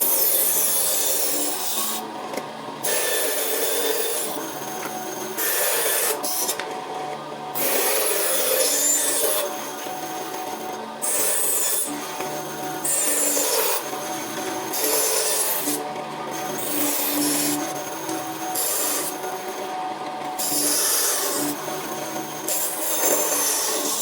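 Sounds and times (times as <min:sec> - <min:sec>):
wood being cut: 0:00.0 - 0:02.2, 0:02.8 - 0:06.9, 0:07.5 - 0:24.0
motor hum: 0:01.2 - 0:24.0.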